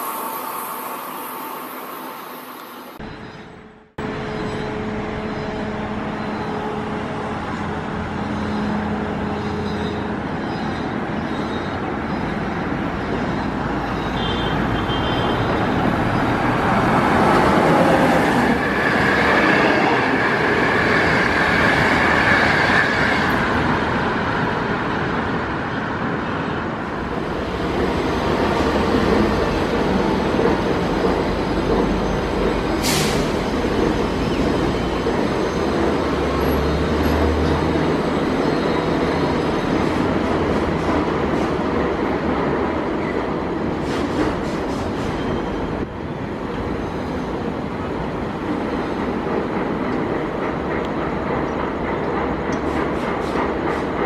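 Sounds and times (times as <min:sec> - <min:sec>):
train coaches rumbling past: 0:00.0 - 0:54.0.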